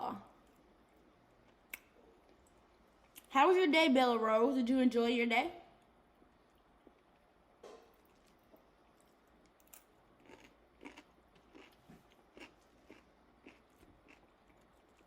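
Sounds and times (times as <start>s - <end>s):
faint chewing of salad: 0.2s - 3.3s, 5.8s - 15.0s.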